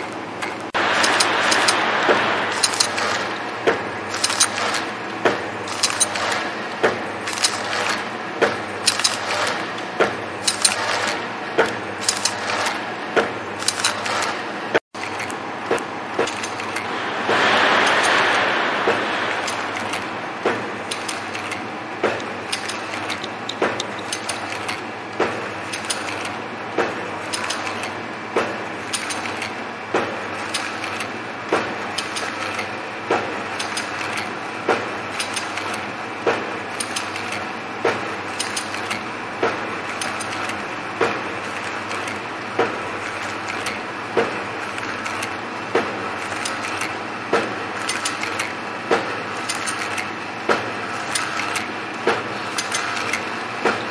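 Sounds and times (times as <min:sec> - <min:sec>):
light machine clicks: 0:00.0 - 0:14.4, 0:15.0 - 0:53.9
packing machine clattering: 0:00.0 - 0:17.0, 0:20.8 - 0:28.0, 0:28.8 - 0:53.9
sharp machine clack: 0:00.0 - 0:53.9.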